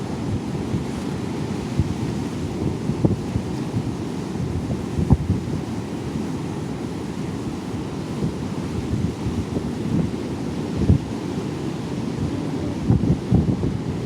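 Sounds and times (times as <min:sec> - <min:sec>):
sea surf rushing: 0:00.0 - 0:14.0
wind buffeting microphone: 0:00.0 - 0:14.0.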